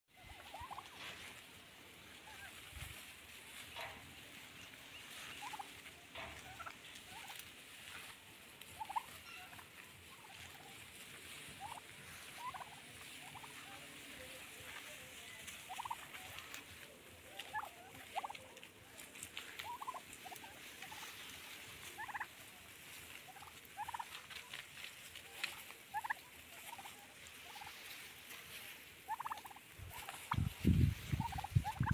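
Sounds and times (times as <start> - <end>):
turkeys chirping: 0.1 - 31.9.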